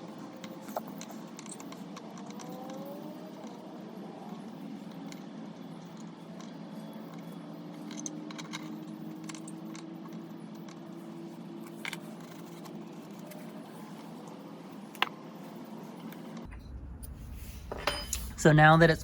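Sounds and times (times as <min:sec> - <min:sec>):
steady low hum: 0:03.7 - 0:19.0.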